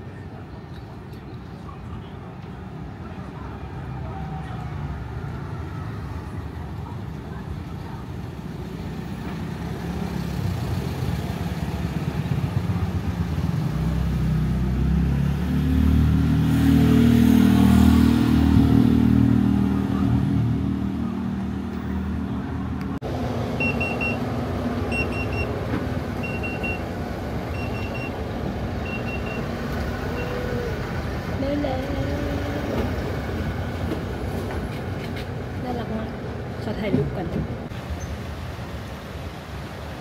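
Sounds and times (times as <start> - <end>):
street noise: 0.0 - 40.0
vehicle engine: 3.4 - 40.0.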